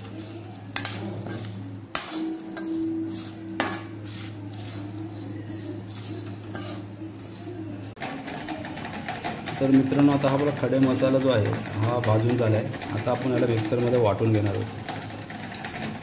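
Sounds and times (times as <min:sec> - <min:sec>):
spices scraping across metal pan: 0:00.0 - 0:16.0.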